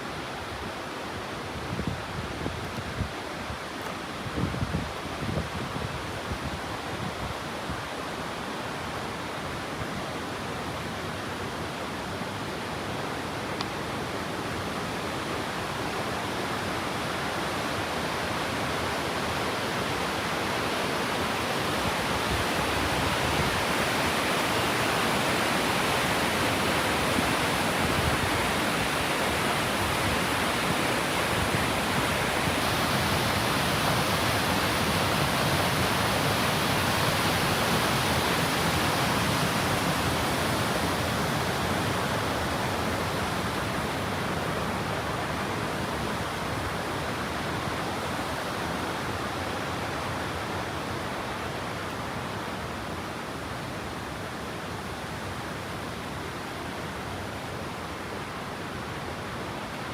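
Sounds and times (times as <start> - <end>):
waterfall rushing: 5.9 - 59.9.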